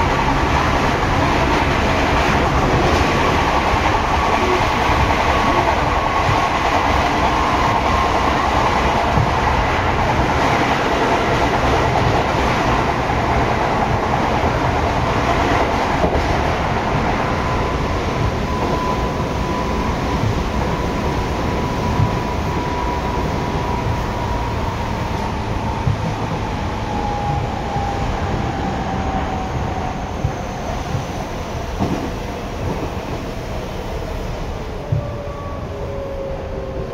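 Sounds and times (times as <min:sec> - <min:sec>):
train wheels on rail: 0:00.0 - 0:36.9.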